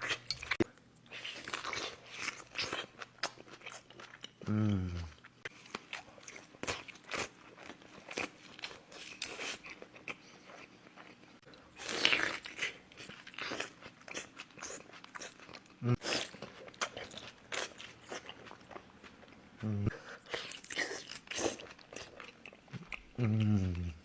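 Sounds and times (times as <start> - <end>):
crunching and chewing: 0.0 - 24.0.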